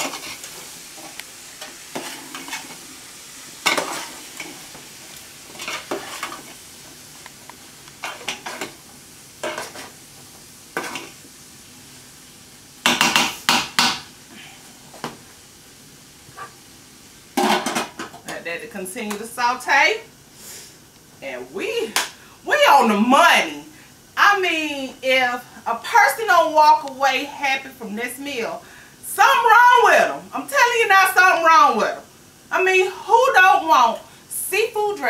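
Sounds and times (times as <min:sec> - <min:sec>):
green beans sizzling: 0:00.0 - 0:35.0.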